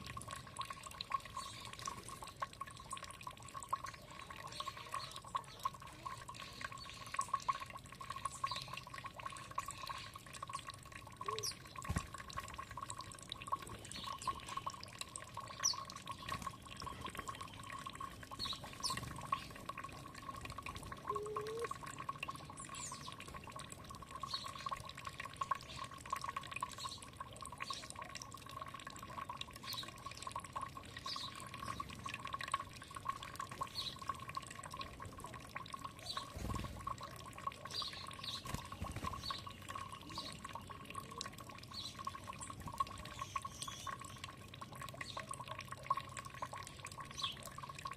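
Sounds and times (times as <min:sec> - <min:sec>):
water trickling and dripping: 0:00.0 - 0:47.9.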